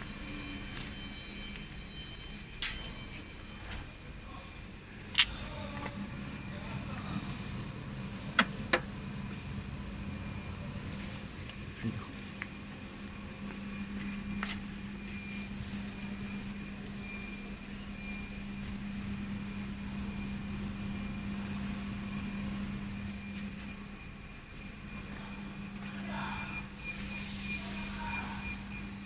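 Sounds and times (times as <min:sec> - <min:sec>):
cnc router humming and whining: 0:00.0 - 0:29.0.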